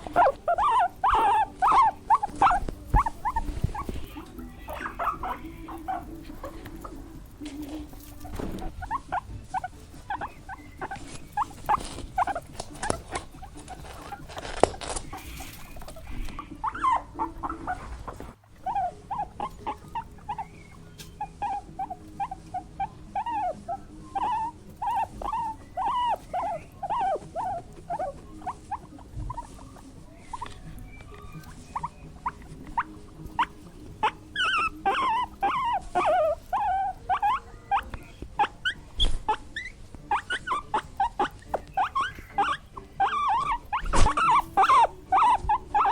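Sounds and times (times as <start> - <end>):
small animals squeaking: 0.0 - 45.9.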